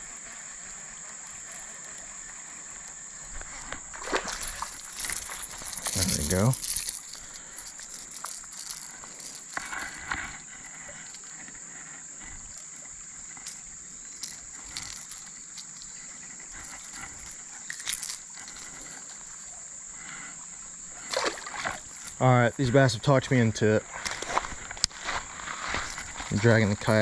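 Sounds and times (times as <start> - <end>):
insects droning: 0.0 - 27.0
handling clicks and rustles: 3.2 - 11.6, 12.2 - 19.5, 21.1 - 27.0.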